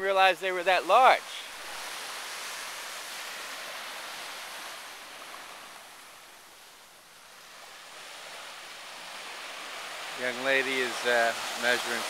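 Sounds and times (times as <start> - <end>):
small waves on sandy beach: 0.0 - 12.0.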